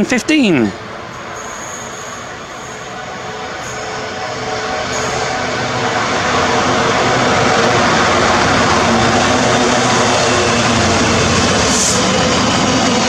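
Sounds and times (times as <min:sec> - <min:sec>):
train wheels rumbling on rails: 0:00.7 - 0:13.0.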